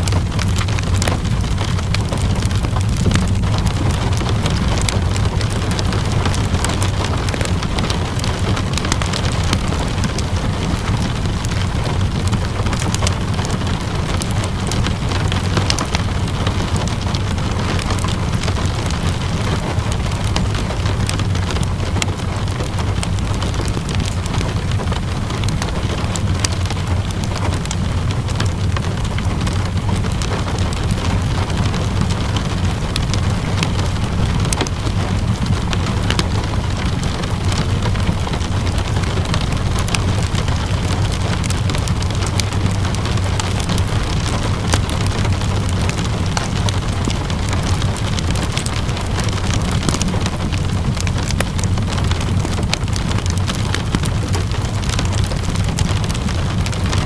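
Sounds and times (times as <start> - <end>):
steady rainfall: 0.0 - 57.0
wood fire crackling and popping: 0.0 - 57.0.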